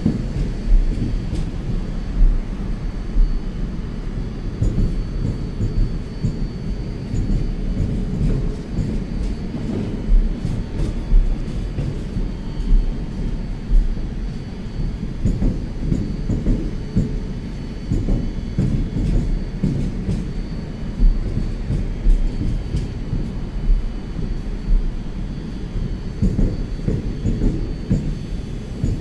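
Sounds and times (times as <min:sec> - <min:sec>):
train rumbling: 0:00.0 - 0:29.0
train wheels knocking: 0:00.0 - 0:29.0.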